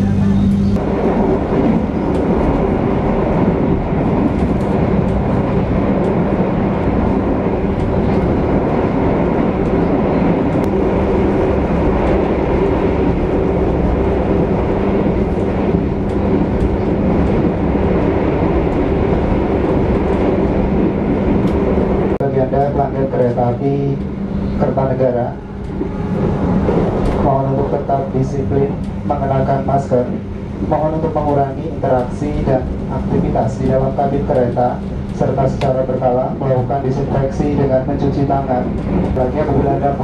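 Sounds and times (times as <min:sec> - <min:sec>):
constant hum: 0:00.0 - 0:40.0
wheels rumbling on rail: 0:00.0 - 0:40.0.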